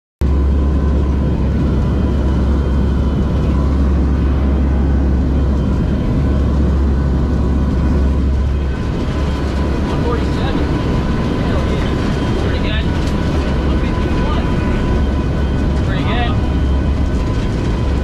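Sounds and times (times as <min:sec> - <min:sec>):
aircraft engines droning: 0:00.2 - 0:18.0
faint steady whine: 0:00.2 - 0:18.0.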